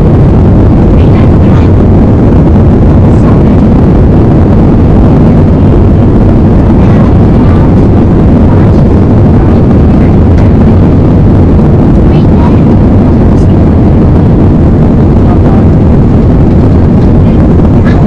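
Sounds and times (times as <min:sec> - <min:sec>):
jet engines at high power: 0:00.0 - 0:18.0.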